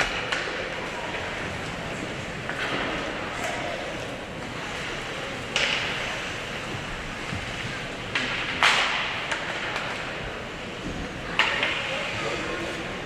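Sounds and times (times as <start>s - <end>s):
arena background hum: 0.0s - 13.0s.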